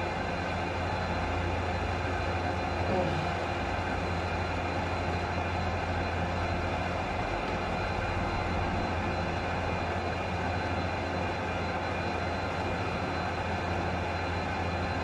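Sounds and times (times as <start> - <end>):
ventilation unit humming: 0.0 - 15.0.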